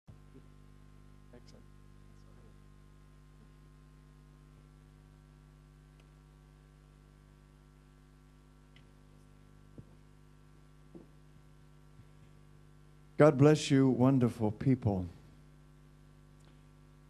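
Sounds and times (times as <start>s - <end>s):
steady electrical hum: 0.1s - 17.0s.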